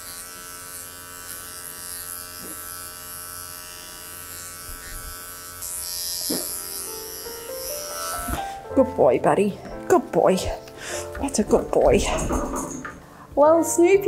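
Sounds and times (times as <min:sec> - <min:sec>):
dog clipper buzzing: 0:00.0 - 0:08.8, 0:09.7 - 0:13.2.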